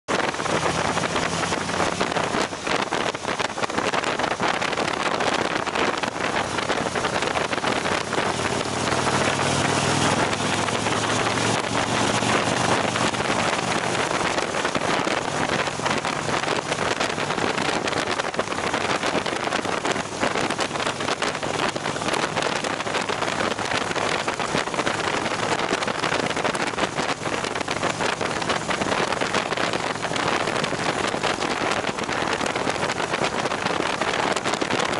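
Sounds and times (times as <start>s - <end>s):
motorcycle engine running: 0.1s - 34.9s
wind rushing over microphone: 0.1s - 34.9s.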